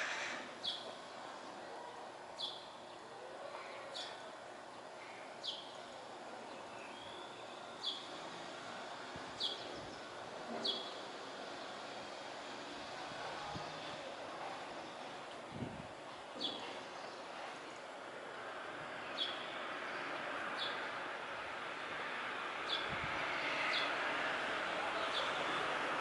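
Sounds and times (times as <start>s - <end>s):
faint outdoor background noise: 0.0s - 26.0s.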